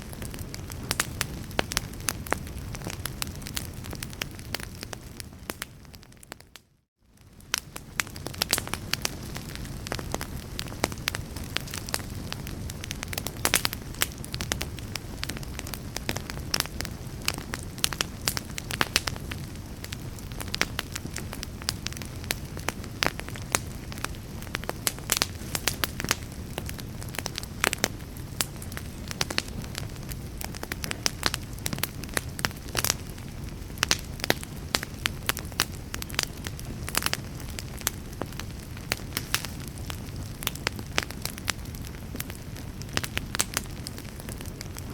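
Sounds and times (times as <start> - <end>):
logs crackling and popping: 0.0 - 44.9
wood fire burning: 0.0 - 44.9.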